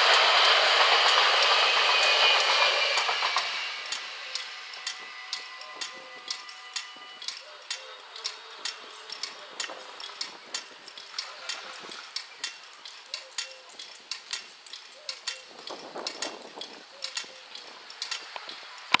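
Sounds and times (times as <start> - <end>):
crossing signal ticking: 0.0 - 19.0.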